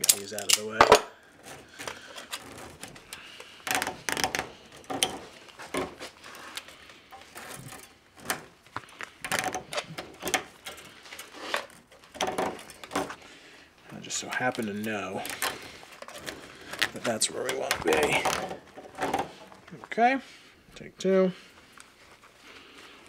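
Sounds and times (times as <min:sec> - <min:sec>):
steel wire clicking and scraping: 0:00.0 - 0:00.8, 0:01.4 - 0:19.7.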